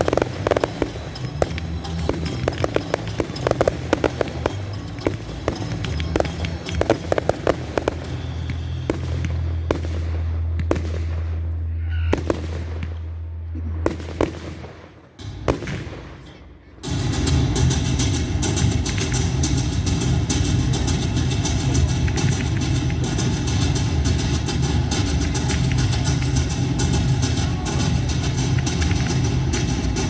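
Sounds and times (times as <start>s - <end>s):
fireworks crackling bangs: 0.0s - 30.0s.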